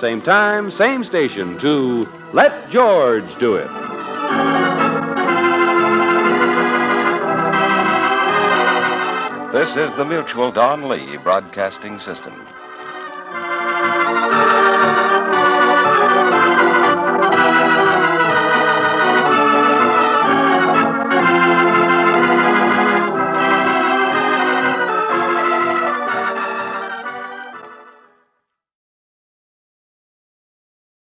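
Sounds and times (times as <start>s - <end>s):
organ playing slow chords: 0.0s - 28.2s.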